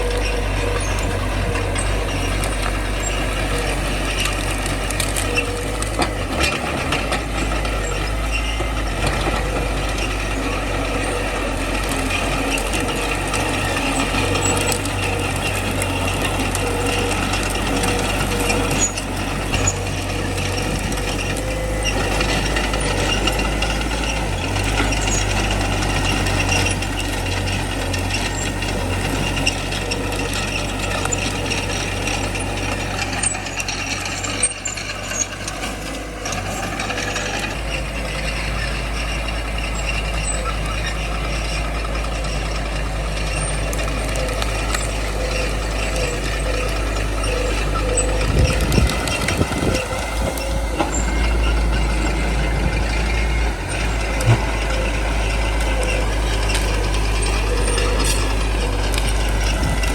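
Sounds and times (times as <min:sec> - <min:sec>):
bulldozer diesel engine drone: 0:00.0 - 0:59.9
steel tracks clattering and squealing: 0:00.0 - 0:59.9.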